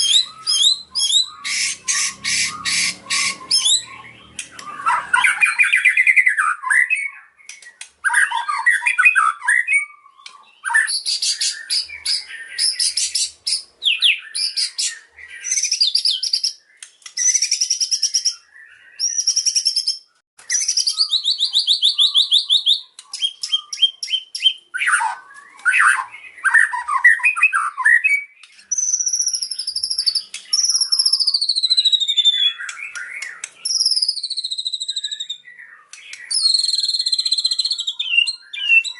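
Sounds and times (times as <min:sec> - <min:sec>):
bird singing varied whistles: 0:00.0 - 0:38.9.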